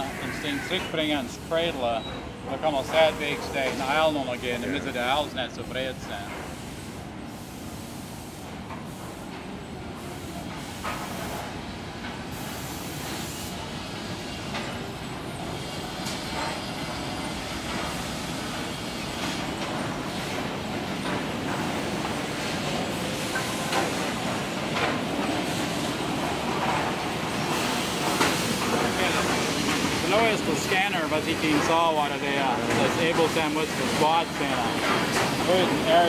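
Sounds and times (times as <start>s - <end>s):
machinery hum and hiss: 0.0s - 36.0s.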